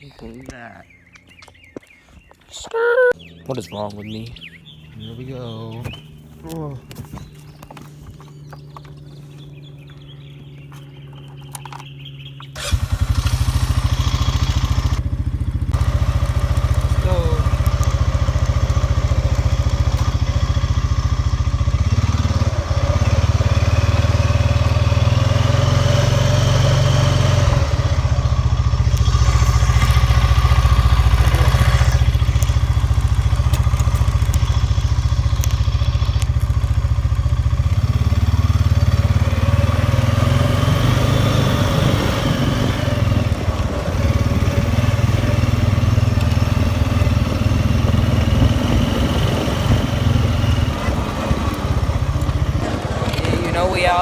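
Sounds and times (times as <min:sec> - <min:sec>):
small vehicle engine running: 0:03.2 - 0:54.0.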